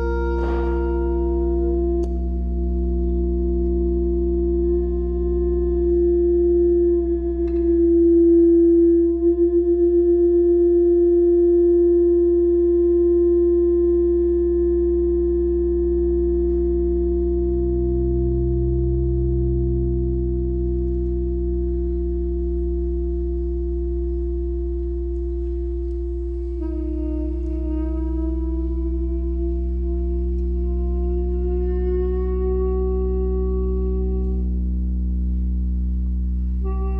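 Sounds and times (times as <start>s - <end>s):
deep low hum: 0.0s - 36.9s
electronic drone tone: 0.0s - 36.9s.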